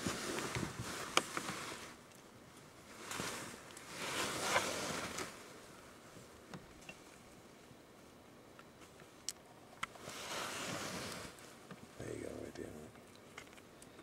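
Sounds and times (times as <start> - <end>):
soft rustling: 0.0 - 14.0.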